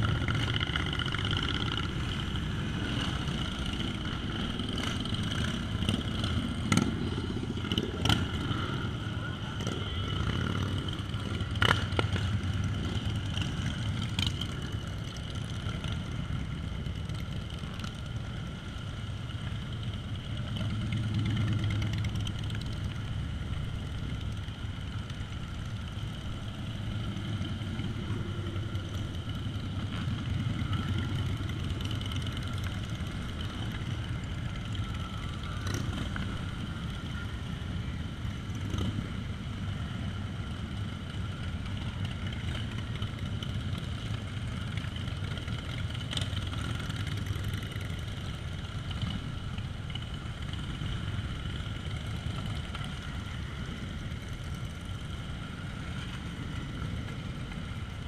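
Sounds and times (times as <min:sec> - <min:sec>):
motorcycles passing: 0:00.0 - 0:58.0.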